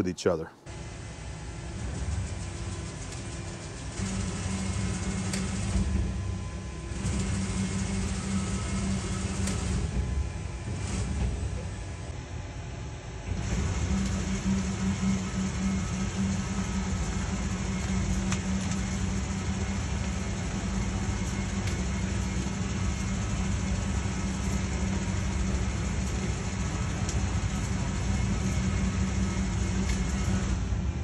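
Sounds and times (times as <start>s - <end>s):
milling machine droning: 0.7s - 12.0s, 13.2s - 31.0s.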